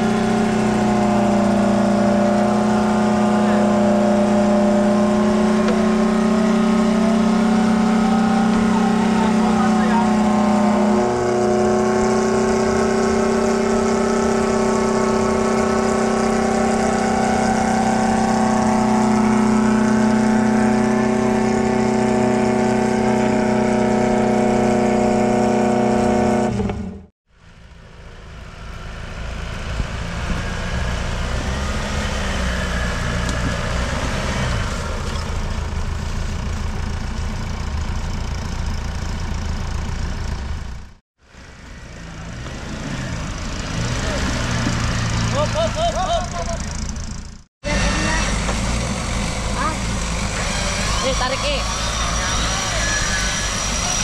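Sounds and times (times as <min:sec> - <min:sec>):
engine revving high: 0:00.0 - 0:27.1, 0:28.8 - 0:35.5, 0:41.4 - 0:47.0, 0:47.6 - 0:54.0
engine running rough: 0:00.0 - 0:54.0.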